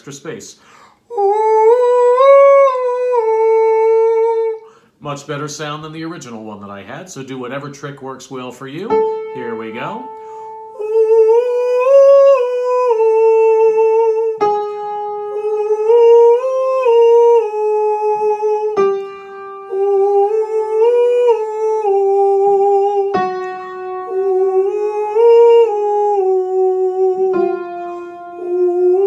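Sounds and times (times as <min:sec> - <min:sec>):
man singing vocal warm-up: 0:00.0 - 0:29.0.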